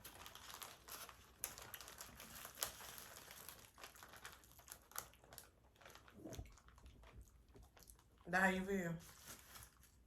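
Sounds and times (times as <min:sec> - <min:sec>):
food packaging crinkling: 0:00.0 - 0:10.0.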